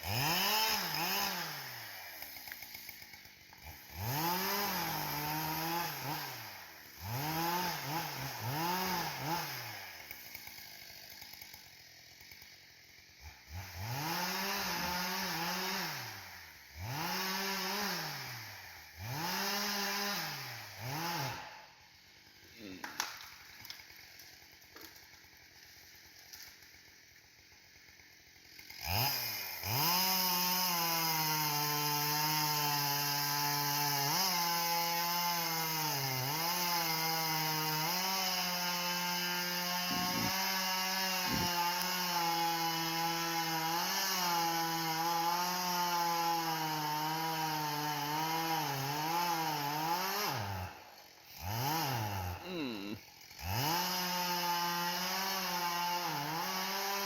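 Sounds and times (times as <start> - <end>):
chainsaw revving while cutting: 0.0 - 57.0.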